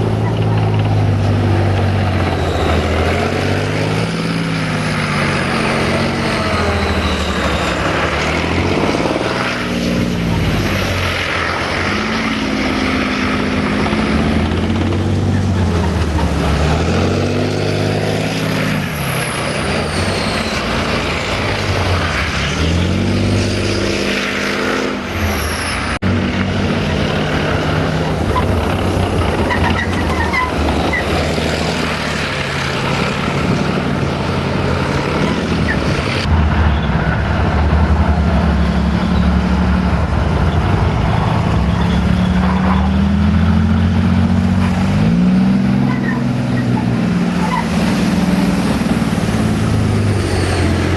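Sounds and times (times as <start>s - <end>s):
military vehicle engines revving: 0.0s - 50.9s.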